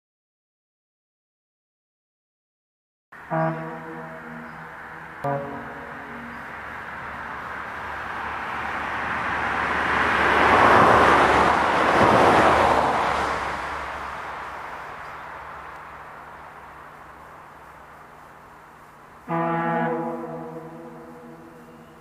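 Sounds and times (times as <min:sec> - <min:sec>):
vehicle passing by: 0:03.2 - 0:22.0.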